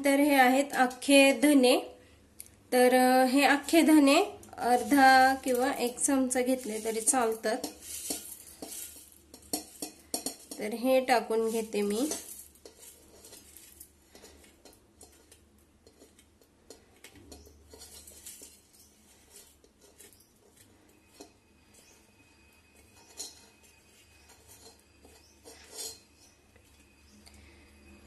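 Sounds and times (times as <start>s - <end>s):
seeds pattering into metal bowl: 0.2s - 1.6s, 2.8s - 27.6s.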